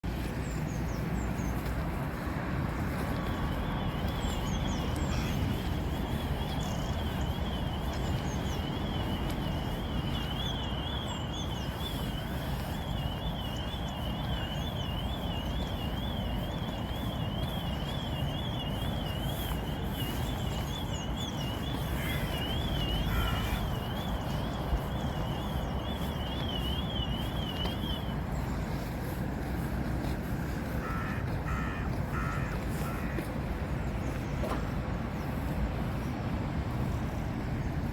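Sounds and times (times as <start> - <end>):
low rumble of wind or traffic: 0.0 - 37.9.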